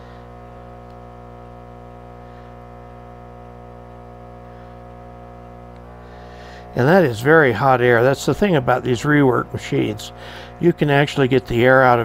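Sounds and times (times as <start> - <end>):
hot air blower humming: 0.0 - 12.0.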